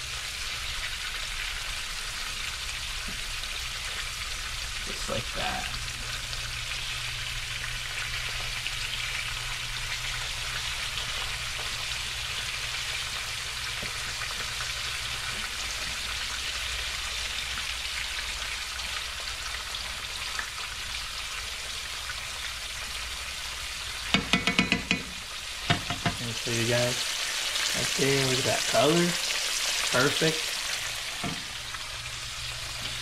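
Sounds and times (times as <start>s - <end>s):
fish fillets sizzling in oil: 0.0s - 33.0s.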